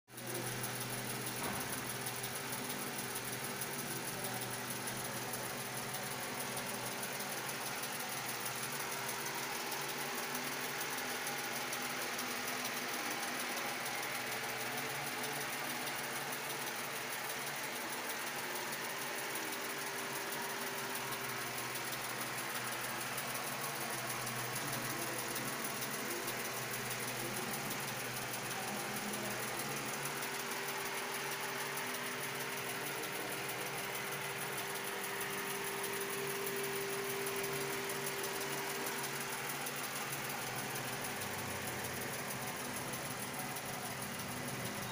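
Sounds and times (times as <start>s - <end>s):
steady mechanical hum with hiss: 0.2s - 44.9s.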